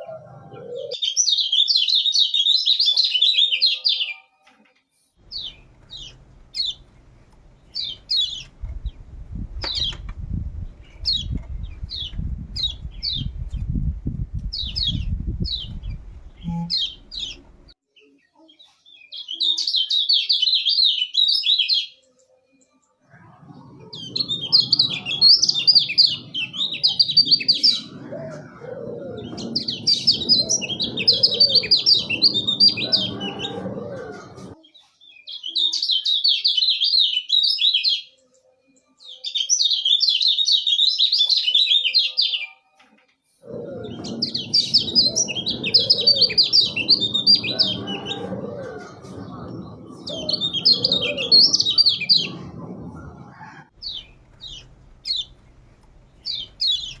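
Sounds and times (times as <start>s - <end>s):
songbird singing: 5.2s - 42.6s, 43.4s - 57.0s.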